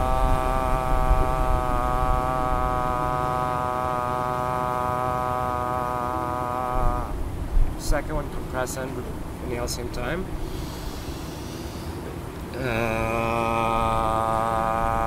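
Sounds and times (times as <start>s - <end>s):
man holding long exhaled tone: 0.0s - 7.8s, 10.2s - 15.0s.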